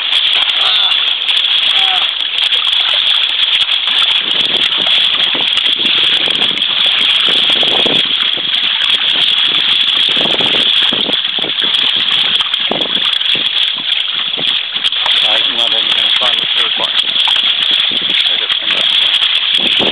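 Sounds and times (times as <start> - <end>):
water splashing along hull: 0.0 - 19.9.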